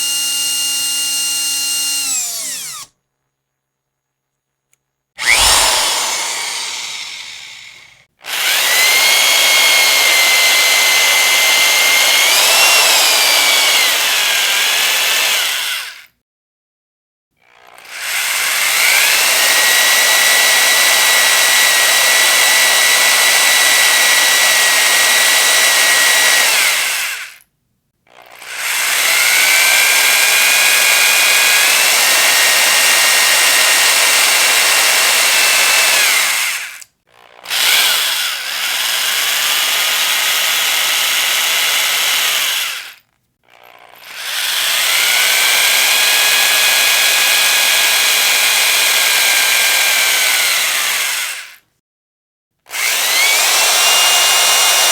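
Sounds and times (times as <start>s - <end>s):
electric drill whining: 0.0s - 2.9s, 5.2s - 16.1s, 17.8s - 27.4s, 28.3s - 51.6s, 52.7s - 54.9s.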